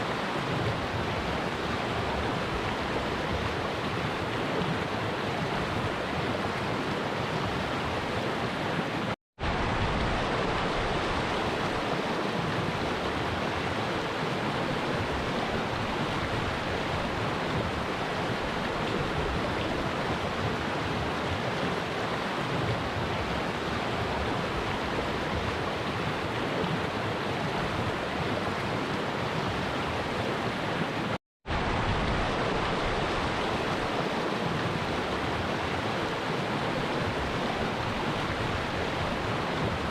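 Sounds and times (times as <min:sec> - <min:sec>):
stream rushing over its bed: 0:00.0 - 0:39.9.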